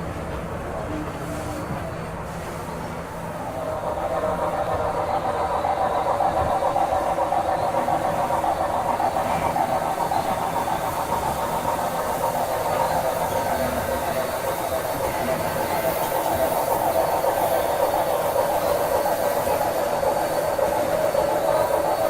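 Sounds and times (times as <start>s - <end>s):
steam locomotive rumble with hiss: 0.0s - 22.0s.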